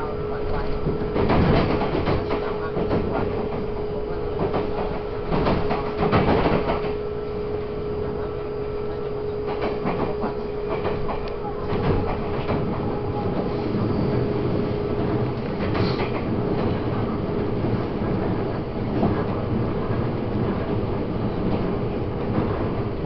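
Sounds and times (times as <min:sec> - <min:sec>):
electric train hum: 0:00.0 - 0:23.0
train wheels rolling: 0:00.4 - 0:08.2, 0:09.0 - 0:23.0.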